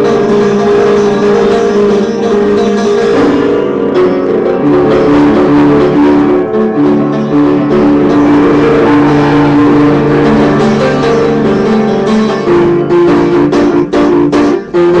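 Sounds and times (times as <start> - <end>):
upright piano chords: 0.0 - 15.0.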